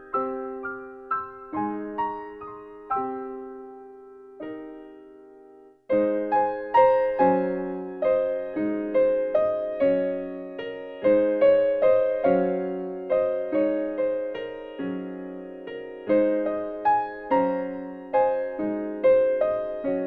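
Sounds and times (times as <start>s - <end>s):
slow piano playing: 0.0s - 20.0s.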